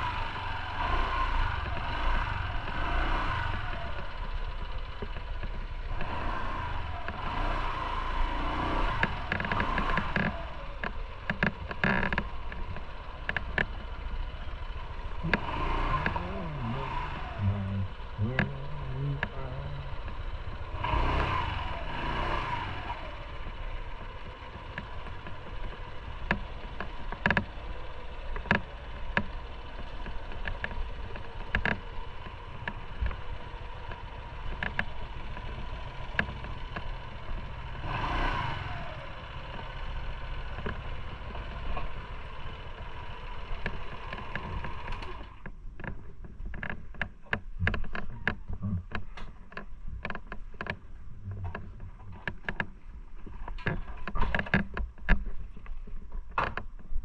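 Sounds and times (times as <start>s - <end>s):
motorcycle engine and road rumble: 0.0s - 57.0s
vehicles passing: 0.0s - 57.0s.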